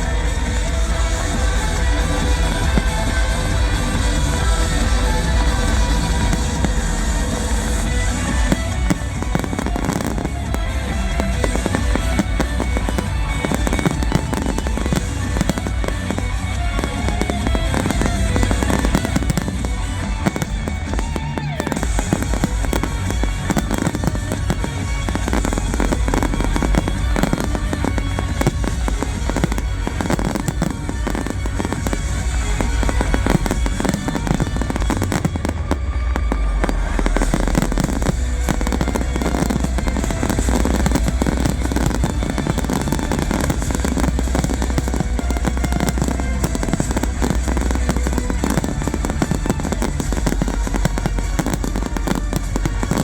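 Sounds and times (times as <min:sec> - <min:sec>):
fireworks bangs and crackles: 0:00.0 - 0:53.0
loud music with heavy bass: 0:00.0 - 0:53.0.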